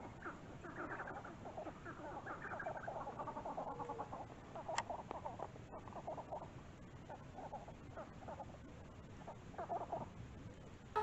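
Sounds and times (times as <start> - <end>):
birds clucking and chirping: 0.0 - 10.2.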